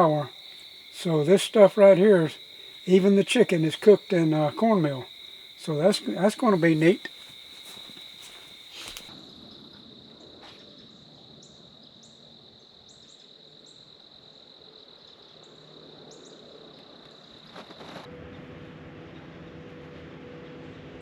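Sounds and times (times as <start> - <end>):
crickets trilling: 0.0 - 18.1.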